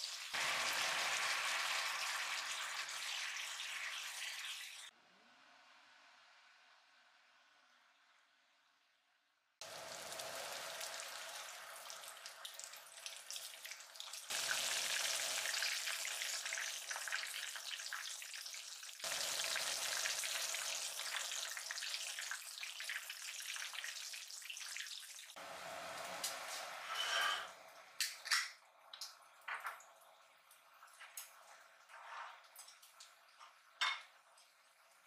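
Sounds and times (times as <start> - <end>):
shrimp frying in oil: 0.0 - 4.9, 9.6 - 35.0.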